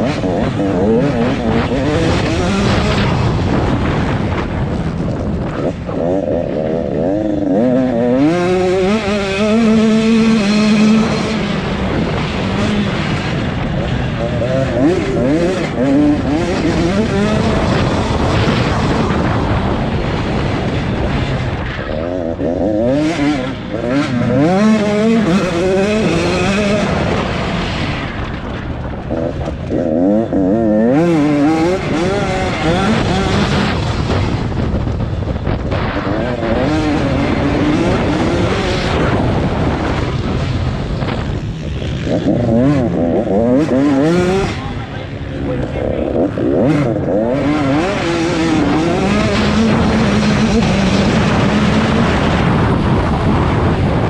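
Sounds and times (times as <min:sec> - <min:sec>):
dirt bike engines racing: 0:00.0 - 0:54.0.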